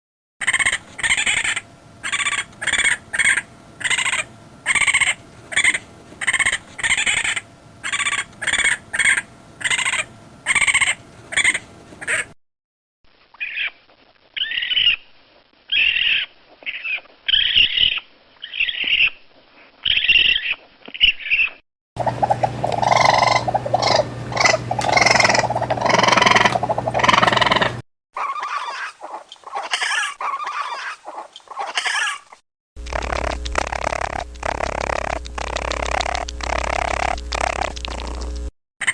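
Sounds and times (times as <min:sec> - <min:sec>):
raccoon calls: 0:00.4 - 0:12.3, 0:13.4 - 0:13.8, 0:14.4 - 0:15.1, 0:15.7 - 0:19.2, 0:19.8 - 0:32.3, 0:32.9 - 0:38.2.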